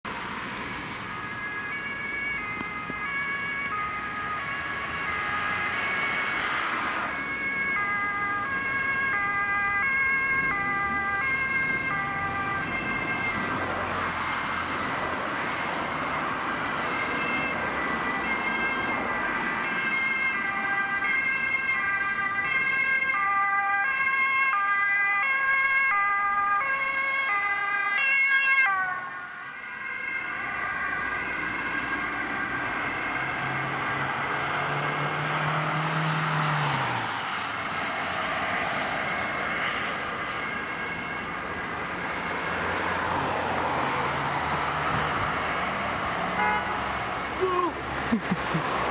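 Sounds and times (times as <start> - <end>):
ambulance siren: 0.1 - 48.9
police car siren: 0.1 - 48.9.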